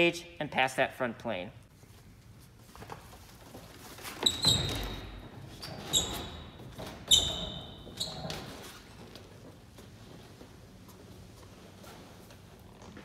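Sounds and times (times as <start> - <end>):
shoes squeaking: 2.2 - 13.0.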